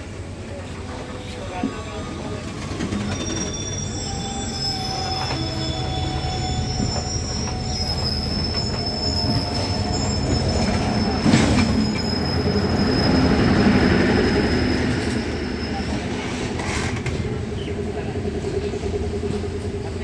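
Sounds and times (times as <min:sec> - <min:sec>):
train carriage rumble: 0:00.0 - 0:20.0
train wheels squealing: 0:00.8 - 0:20.0.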